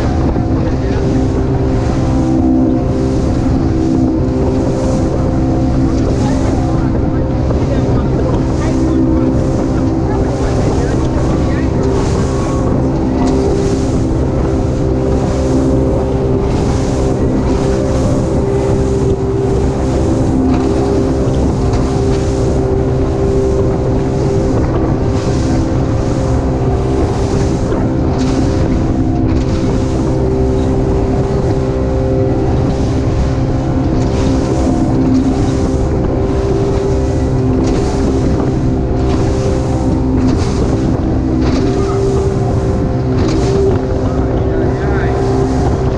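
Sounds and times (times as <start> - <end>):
motorboat engine running: 0.0 - 45.9
wind and spray rushing: 0.0 - 45.9.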